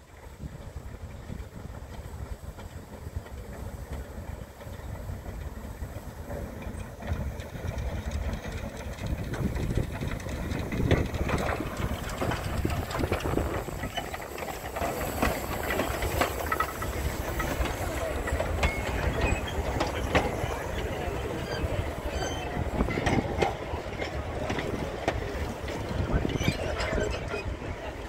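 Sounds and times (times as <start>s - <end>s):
steam locomotive rumble: 0.0s - 28.0s
wheels clicking and knocking: 0.3s - 27.9s.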